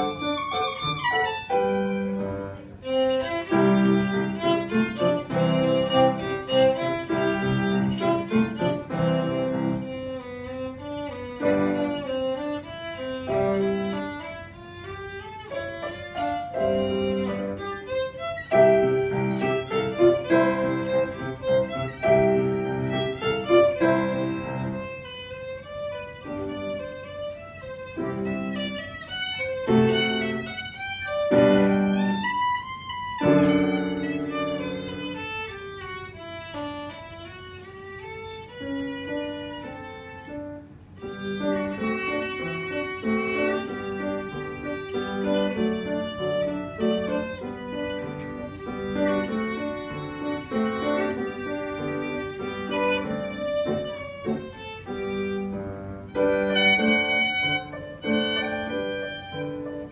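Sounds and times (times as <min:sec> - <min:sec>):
piano accompaniment: 0:00.0 - 0:59.9
violin playing a minuet: 0:00.0 - 0:59.9.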